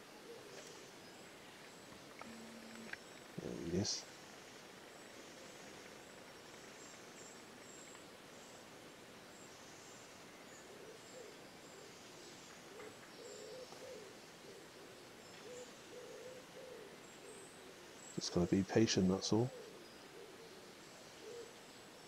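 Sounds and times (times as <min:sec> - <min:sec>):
bird's low repeated calls: 0:00.0 - 0:07.9, 0:09.5 - 0:21.9
quiet hiss: 0:00.0 - 0:22.0.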